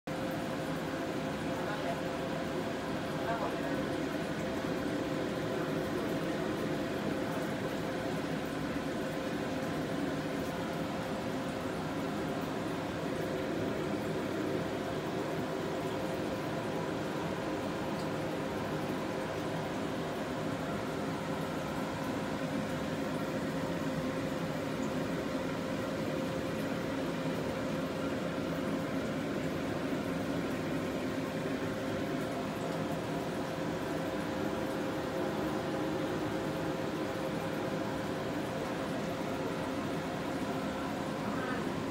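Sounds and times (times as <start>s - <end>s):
aquarium air pump bubbling: 0.1s - 41.9s
constant hum: 0.1s - 41.9s.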